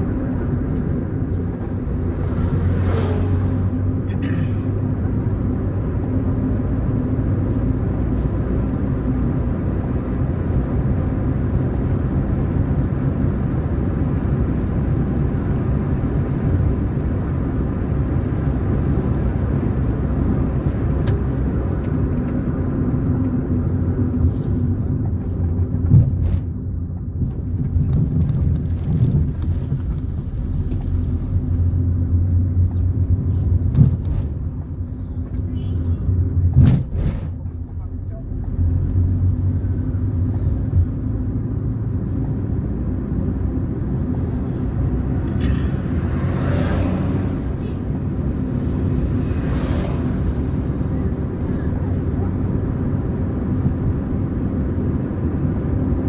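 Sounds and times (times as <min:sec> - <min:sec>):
car engine hum: 0:00.0 - 0:56.0.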